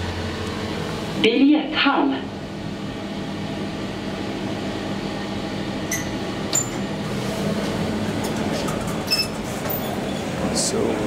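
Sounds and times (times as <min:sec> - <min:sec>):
elevator mechanical hum: 0:00.0 - 0:11.0.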